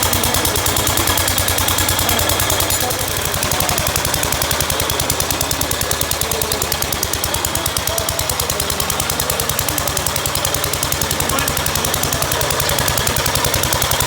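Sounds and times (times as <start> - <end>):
single-cylinder engine running: 0.0 - 14.0.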